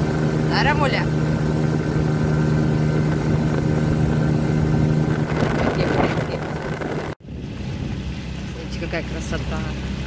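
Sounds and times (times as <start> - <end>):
outboard motor running: 0.0 - 10.0
wind and water rushing: 0.0 - 10.0.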